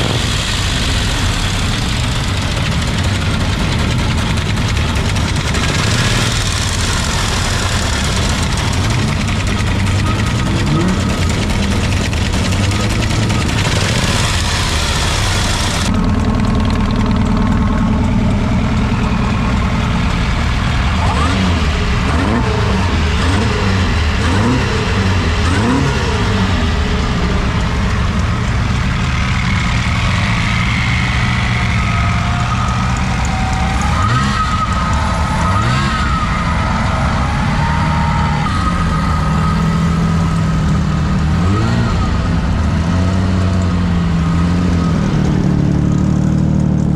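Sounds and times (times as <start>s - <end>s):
car engines idling and revving: 0.0s - 46.9s.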